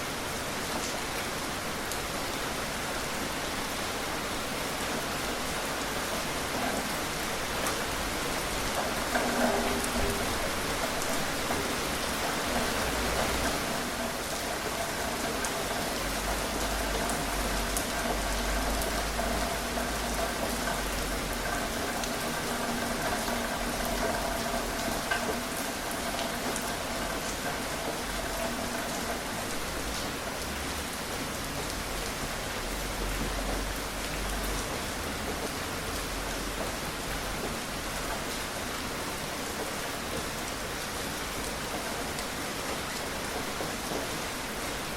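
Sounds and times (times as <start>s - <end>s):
steady rain hiss: 0.0s - 44.9s
raindrop ticks: 4.6s - 44.9s.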